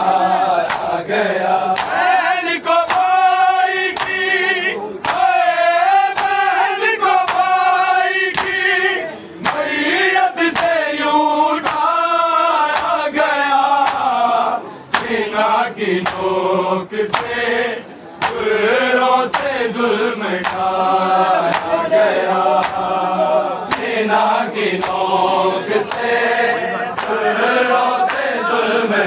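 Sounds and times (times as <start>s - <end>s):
men chanting in chorus: 0.0s - 29.0s
rhythmic chest-beating slaps: 0.0s - 29.0s.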